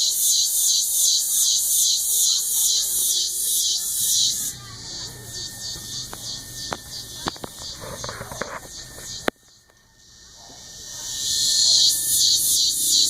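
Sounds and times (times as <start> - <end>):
cicadas singing: 0.0 - 13.0.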